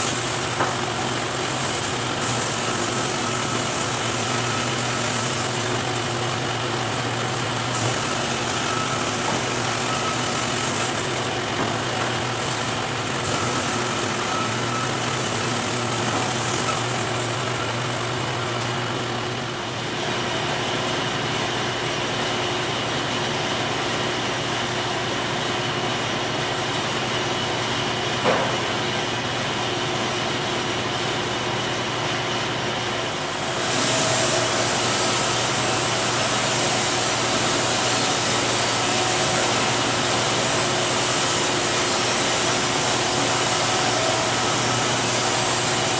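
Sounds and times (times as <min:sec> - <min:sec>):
band sawmill running: 0:00.0 - 0:45.9.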